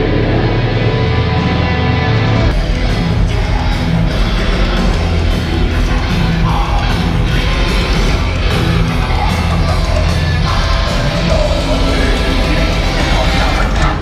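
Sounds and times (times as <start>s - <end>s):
distorted guitars: 0.0s - 14.0s
drums: 0.0s - 14.0s
yelled vocals: 0.0s - 14.0s.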